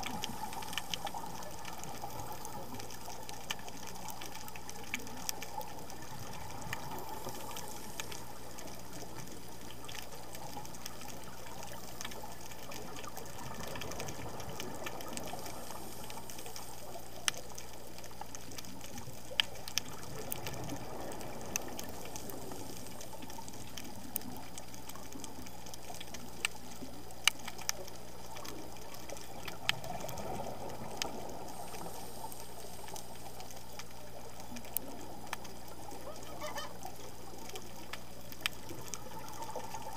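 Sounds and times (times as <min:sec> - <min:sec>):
steady underwater hiss: 0:00.0 - 0:39.9.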